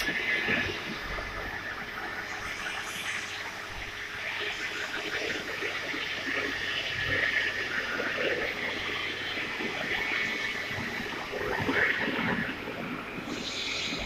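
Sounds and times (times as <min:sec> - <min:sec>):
welding arc hissing and crackling: 0:00.0 - 0:14.0.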